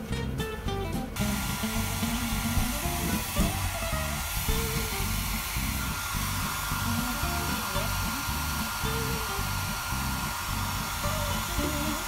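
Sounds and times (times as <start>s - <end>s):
background music with a beat: 0.0s - 12.0s
hair dryer blowing: 1.2s - 12.0s.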